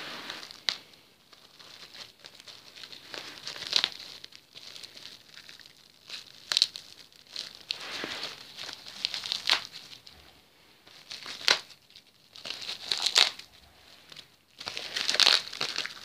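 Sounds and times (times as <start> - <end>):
plastic wrap crinkling: 0.0 - 16.0.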